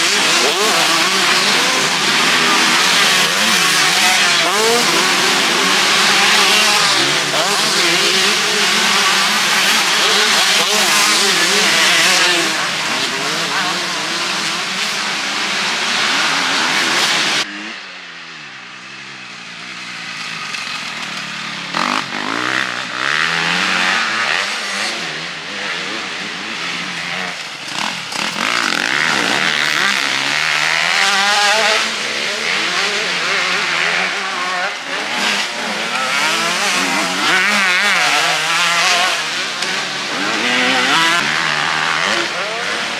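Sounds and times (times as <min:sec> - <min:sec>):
motocross bikes revving: 0:00.0 - 0:42.9.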